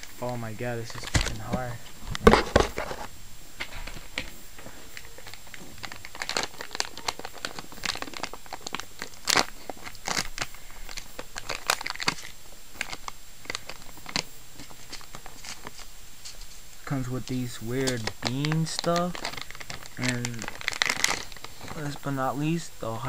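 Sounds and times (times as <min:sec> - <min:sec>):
plastic bag crinkling: 0:00.0 - 0:22.6.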